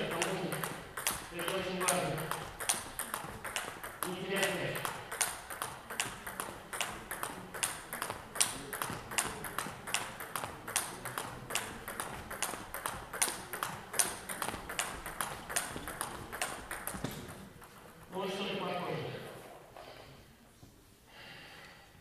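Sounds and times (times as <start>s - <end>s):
table tennis ball knocking: 0.0s - 18.1s.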